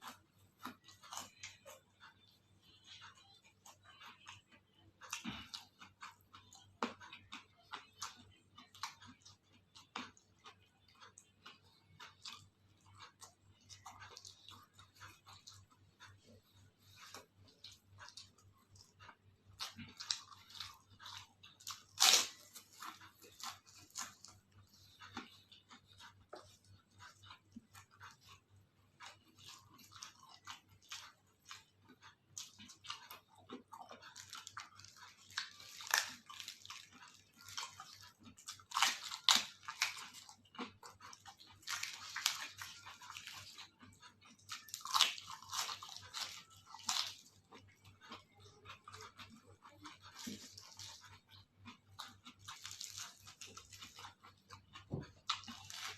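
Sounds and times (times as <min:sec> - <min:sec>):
crunching and chewing crisp food: 0:00.0 - 0:55.9.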